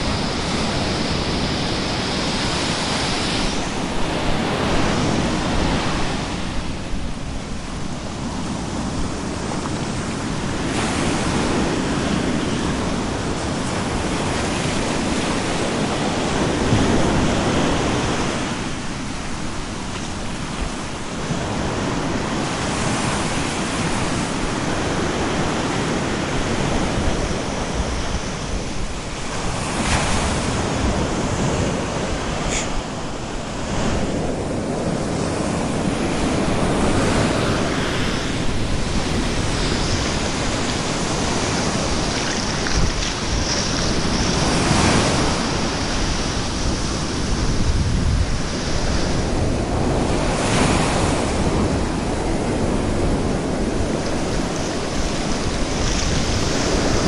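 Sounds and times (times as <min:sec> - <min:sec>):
ocean waves breaking: 0:00.0 - 0:57.0
wind on microphone: 0:00.0 - 0:57.0.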